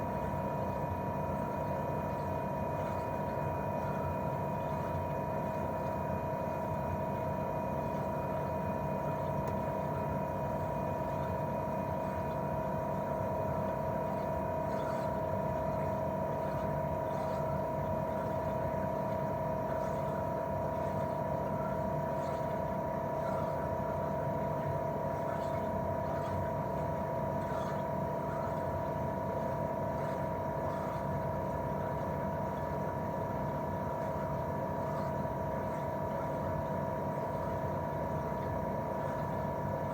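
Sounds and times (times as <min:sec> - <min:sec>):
air conditioner unit humming: 0:00.0 - 0:39.9.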